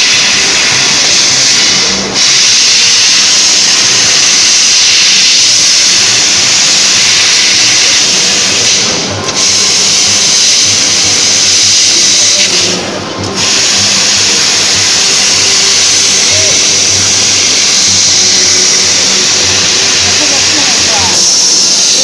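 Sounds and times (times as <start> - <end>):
laser cutter gas hiss: 0.0 - 22.0.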